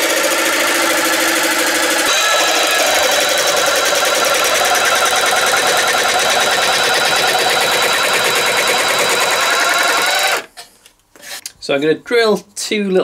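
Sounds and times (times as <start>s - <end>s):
jigsaw cutting wood: 0.0s - 10.6s.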